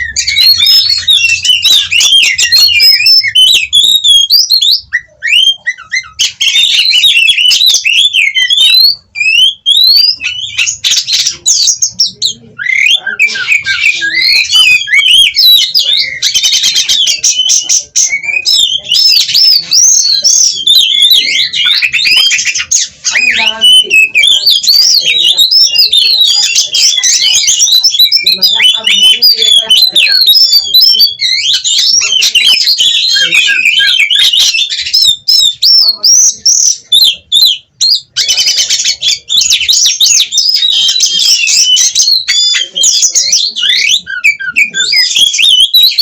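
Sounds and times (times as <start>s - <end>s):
bird singing whistled phrases: 0.0s - 46.0s.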